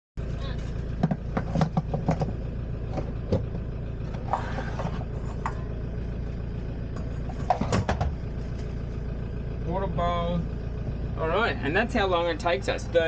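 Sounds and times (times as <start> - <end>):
van engine rumbling: 0.2 - 13.0.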